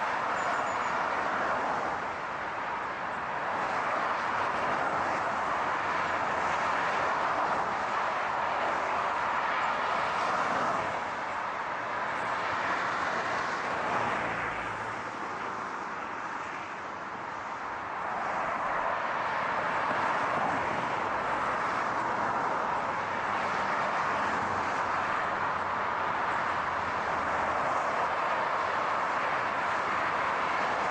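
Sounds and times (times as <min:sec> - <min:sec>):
car tyre and road noise: 0:00.0 - 0:30.9.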